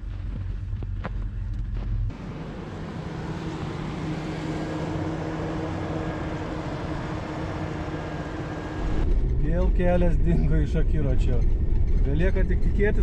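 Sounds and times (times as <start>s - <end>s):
car engine running under load: 0.0s - 12.8s.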